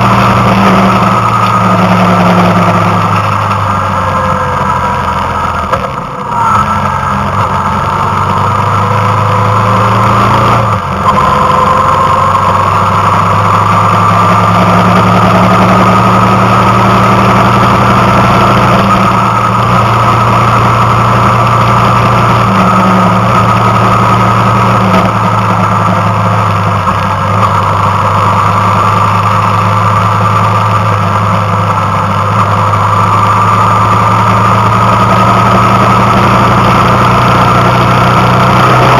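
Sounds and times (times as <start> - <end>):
road and wind noise: 0.0 - 38.9
vehicle engine running: 0.0 - 38.9.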